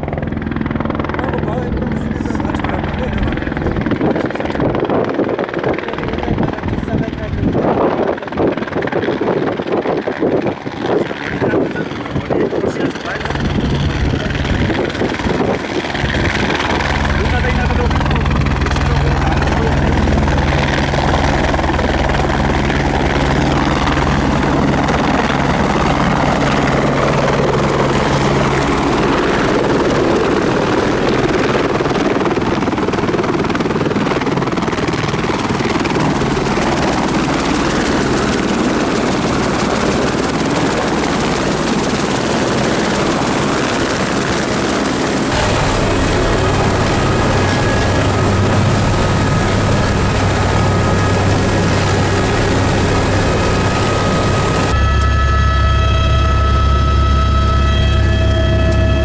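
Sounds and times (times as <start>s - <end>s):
helicopter rotor hum: 0.0s - 59.0s
high turbine whine: 0.0s - 59.0s.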